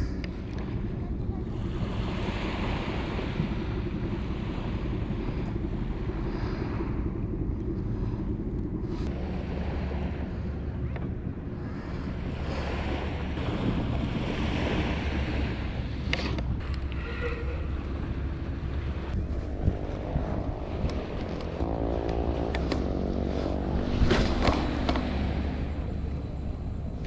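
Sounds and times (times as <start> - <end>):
sea waves washing in: 0.0 - 27.0
wind rumbling on microphone: 0.0 - 27.0.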